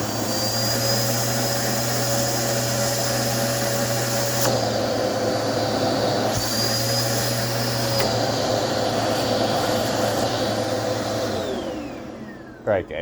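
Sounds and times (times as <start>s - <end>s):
vacuum cleaner motor whine: 0.0s - 12.7s.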